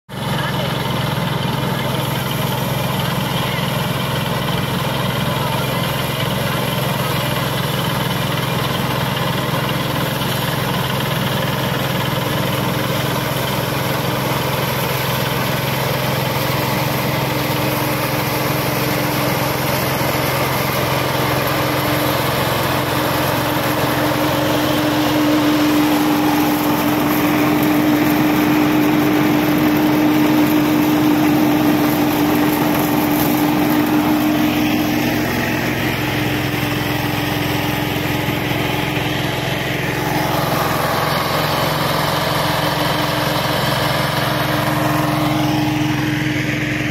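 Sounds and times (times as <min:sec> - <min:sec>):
combine harvester engine drone: 0:00.1 - 0:46.9.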